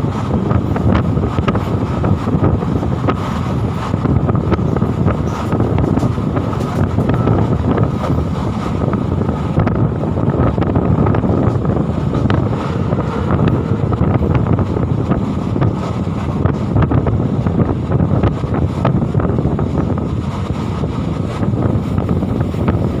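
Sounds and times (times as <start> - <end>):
moving train rumble: 0.0 - 23.0
wind buffeting microphone: 0.0 - 23.0.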